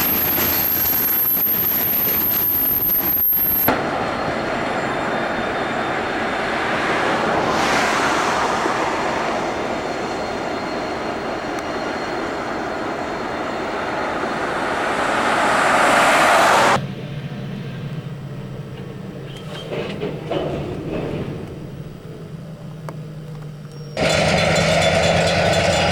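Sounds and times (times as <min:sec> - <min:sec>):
train wheels on rail: 0:00.0 - 0:25.9.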